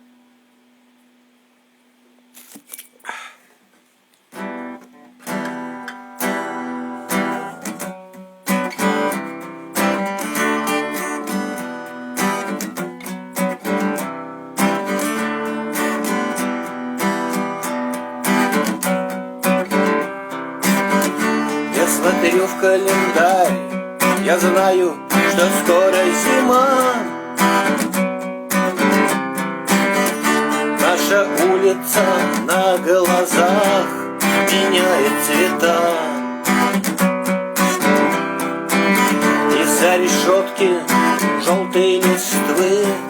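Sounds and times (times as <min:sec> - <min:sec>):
acoustic guitar chords: 0:04.3 - 0:43.0.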